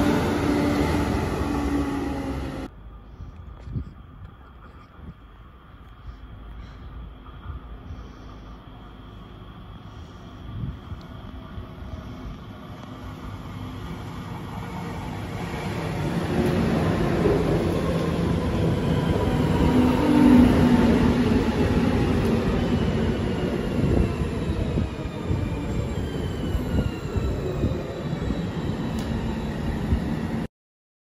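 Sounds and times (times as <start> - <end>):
train wheels rumbling on rails: 4.1 - 30.5.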